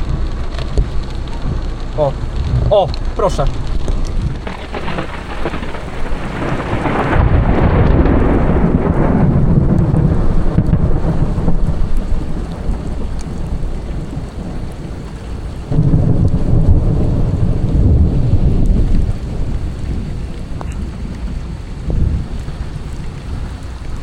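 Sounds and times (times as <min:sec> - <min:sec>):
heavy rain: 0:00.0 - 0:24.0
thunder rumbling: 0:00.0 - 0:24.0.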